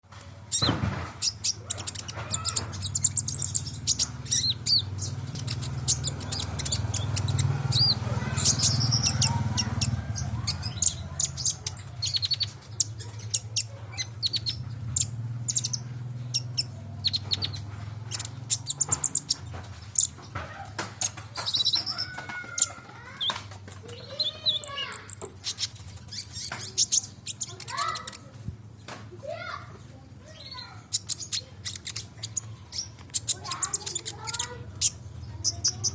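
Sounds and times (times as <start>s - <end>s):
bird singing high chirps: 0.5s - 20.2s, 21.0s - 28.4s, 30.2s - 35.9s.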